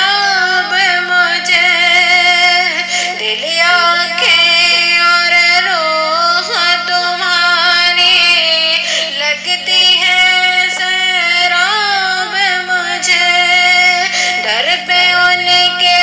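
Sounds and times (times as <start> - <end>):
high solo voice singing: 0.0 - 16.0
steady low hum: 0.0 - 16.0.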